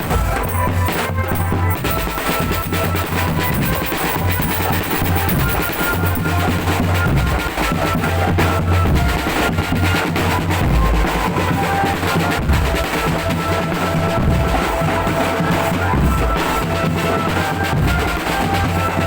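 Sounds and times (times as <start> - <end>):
bass and snare drums beating: 0.0 - 19.0
marching drum band: 0.0 - 19.0.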